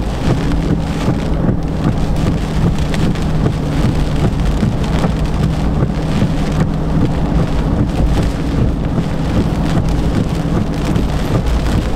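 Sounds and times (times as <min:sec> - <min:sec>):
engine and tyres drone: 0:00.0 - 0:11.9
heavy rain and wind on car: 0:00.0 - 0:11.9.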